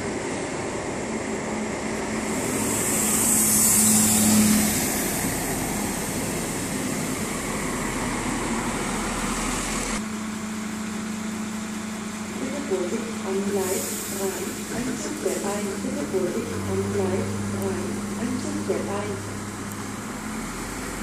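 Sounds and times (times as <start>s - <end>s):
train engine hum: 0.0s - 21.0s
wheel-on-rail noise: 0.0s - 21.0s.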